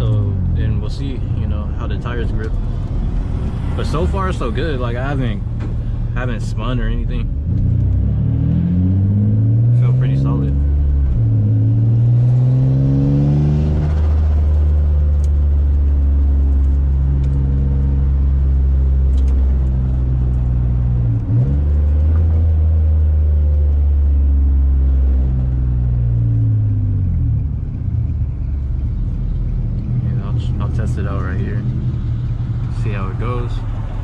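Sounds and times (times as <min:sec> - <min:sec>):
car engine drone from inside cabin: 0:00.0 - 0:34.0.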